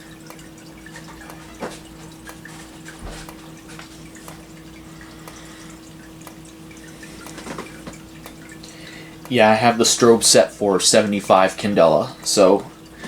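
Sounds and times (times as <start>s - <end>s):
steady low hum: 0.0s - 13.0s
strobe discharge ticks: 0.0s - 13.0s.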